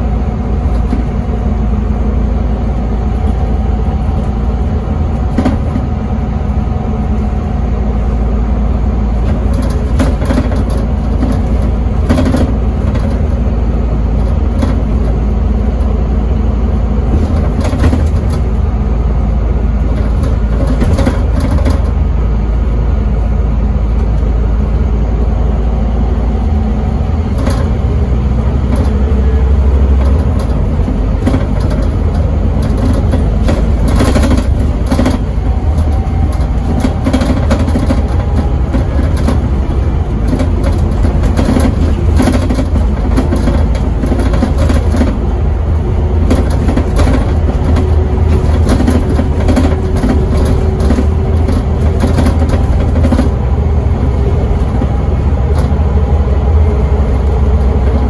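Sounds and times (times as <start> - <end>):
rattles and knocks: 0.0 - 24.4, 26.3 - 58.0
bus diesel engine droning: 0.0 - 58.0.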